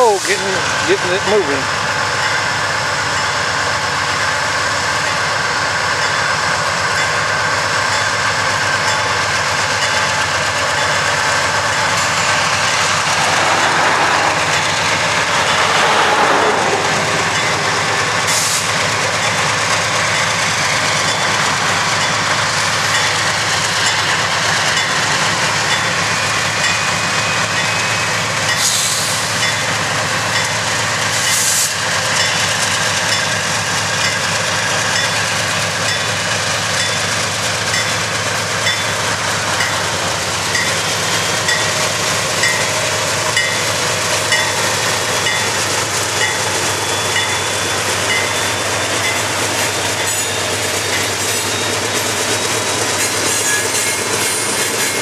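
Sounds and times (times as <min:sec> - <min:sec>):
diesel locomotives droning: 0:00.0 - 0:55.0.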